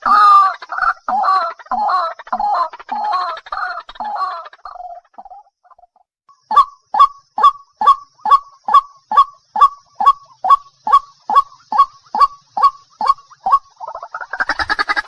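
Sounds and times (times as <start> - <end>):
waterhen calling harsh notes: 0.0 - 5.8, 6.4 - 15.0.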